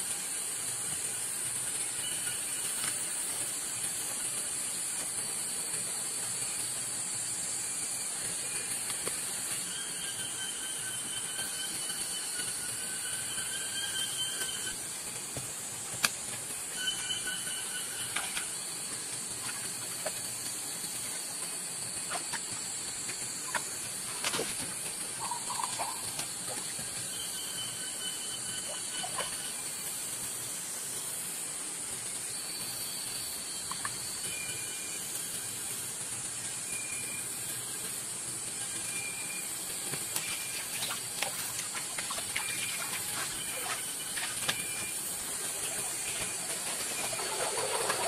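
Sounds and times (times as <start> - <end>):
insects droning: 0.0 - 48.0
low steady whine: 0.0 - 48.0.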